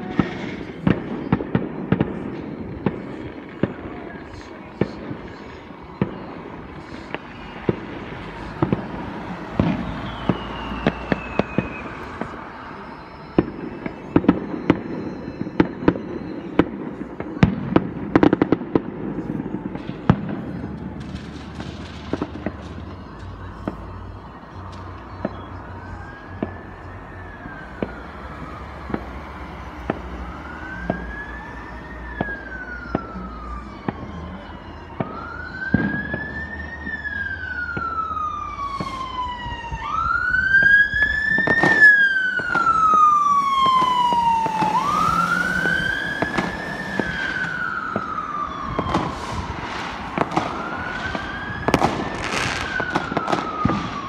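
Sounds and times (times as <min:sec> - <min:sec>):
fireworks bangs and crackles: 0:00.0 - 0:54.0
siren wailing: 0:00.0 - 0:54.0.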